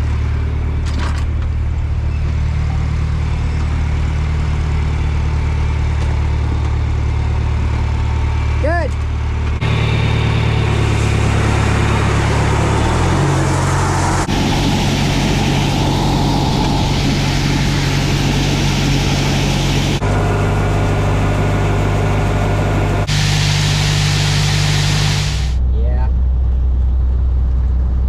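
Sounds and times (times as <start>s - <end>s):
heavy vehicle engines idling: 0.0s - 28.0s.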